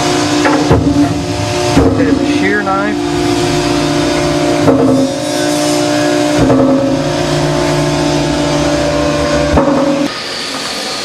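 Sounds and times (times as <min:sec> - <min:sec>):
hydraulic motor humming: 0:00.0 - 0:11.0.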